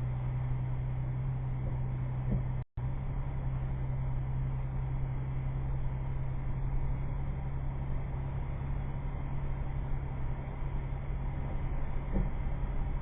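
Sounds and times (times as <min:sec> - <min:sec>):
car engine droning: 0:00.0 - 0:13.0
road noise hiss: 0:00.0 - 0:13.0.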